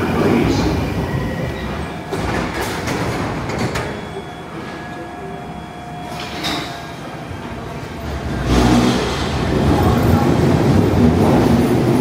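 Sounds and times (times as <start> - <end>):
underground train rumbling: 0.0 - 12.0.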